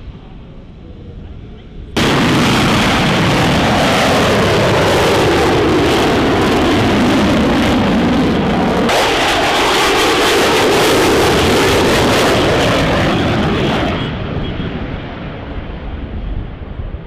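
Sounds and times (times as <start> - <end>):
jet flying overhead: 0.0 - 17.0.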